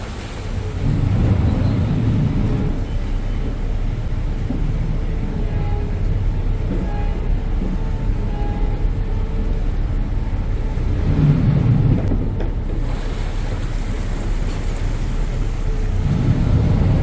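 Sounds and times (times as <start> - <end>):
ferry engine rumble: 0.0 - 17.0
water washing past hull: 0.0 - 17.0.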